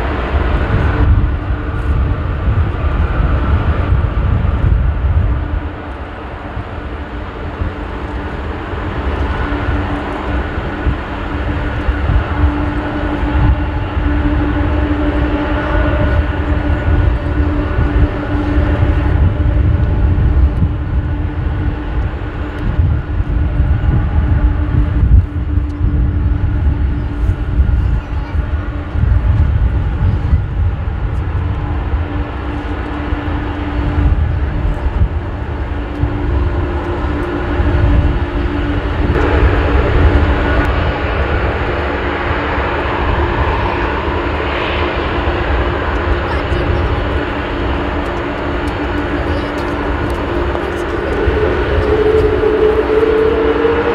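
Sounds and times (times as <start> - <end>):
faint engine hum: 0.0 - 53.9
jet engines rumbling: 0.0 - 53.9.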